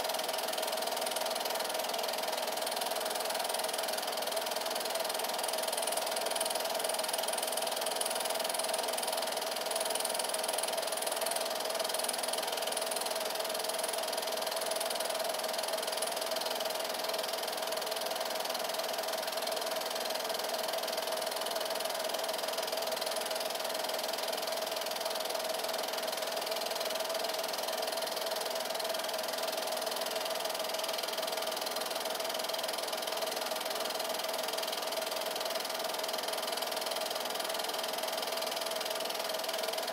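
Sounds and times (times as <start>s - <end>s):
film projector motor whirring: 0.0s - 39.9s.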